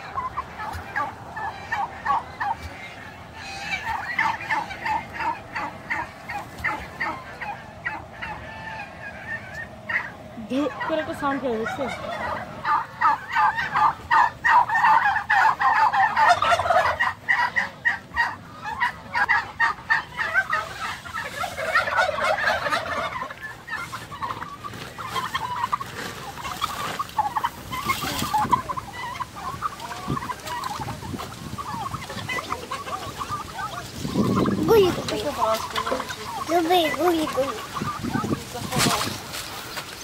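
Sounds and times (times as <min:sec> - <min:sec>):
turkeys calling: 0:00.0 - 0:40.0.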